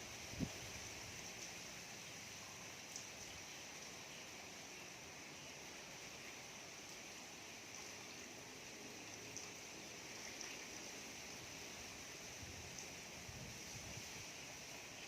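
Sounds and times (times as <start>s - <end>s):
light ticks of raindrops: 0.0s - 15.0s
rain hissing: 0.0s - 15.0s.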